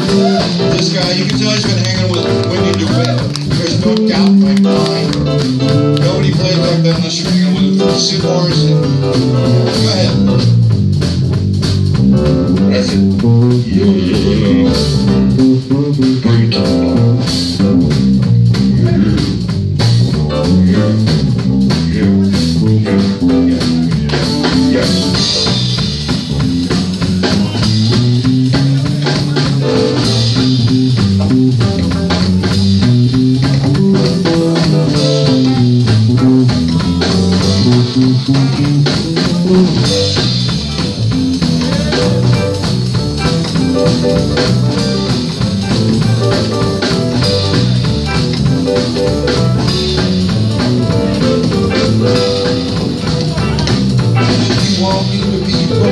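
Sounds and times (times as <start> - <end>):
drum kit beat: 0.0 - 55.9
electric bass line: 0.0 - 55.9
electric guitar: 0.0 - 55.9.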